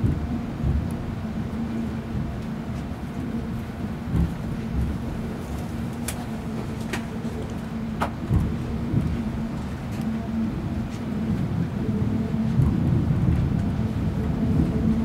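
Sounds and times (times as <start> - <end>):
train cabin rumble: 0.0 - 15.0.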